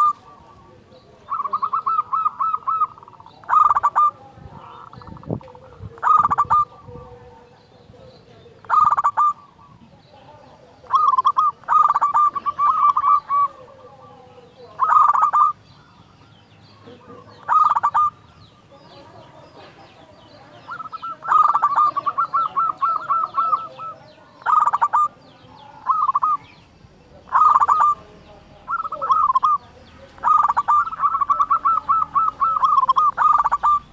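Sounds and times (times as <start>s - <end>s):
dove cooing: 0.0s - 33.9s
small birds chirping: 0.0s - 33.9s.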